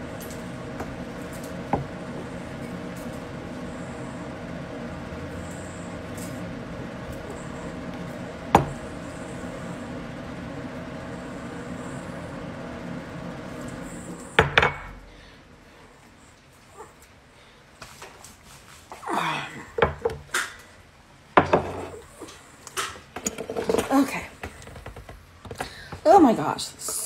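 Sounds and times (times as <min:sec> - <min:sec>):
background hum with faint tones: 0:00.0 - 0:27.0.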